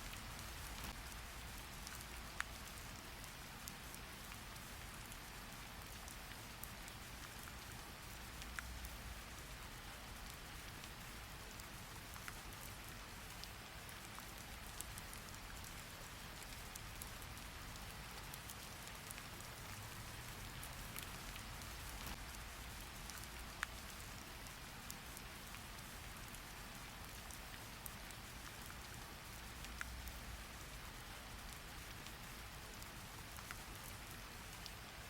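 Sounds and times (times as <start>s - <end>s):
light drip ticks: 0.0s - 35.0s
steady rain hiss: 0.0s - 35.0s.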